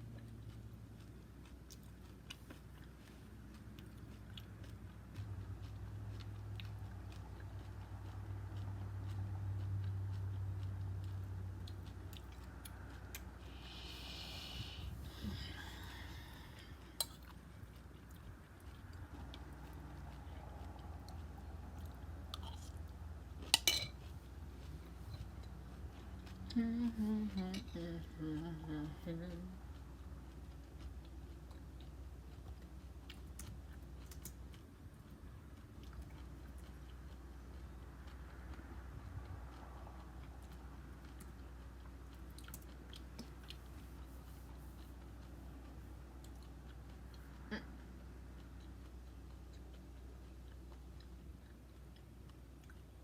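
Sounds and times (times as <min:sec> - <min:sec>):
chewing crunchy cereal: 0:00.0 - 0:53.0
low hum: 0:03.3 - 0:53.0.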